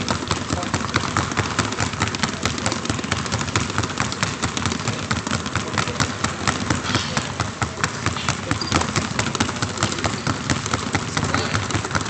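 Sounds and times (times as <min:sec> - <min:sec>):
basketballs bouncing on hardwood: 0:00.0 - 0:12.0.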